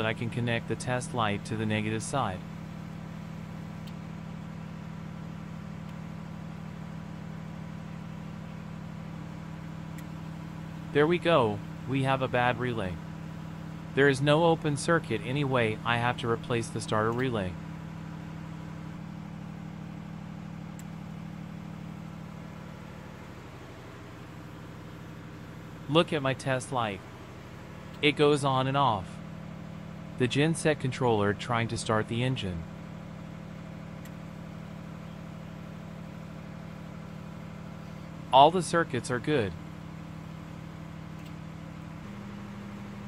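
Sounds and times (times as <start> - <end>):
engine droning: 0.0 - 43.0
low mechanical hum: 0.0 - 43.0.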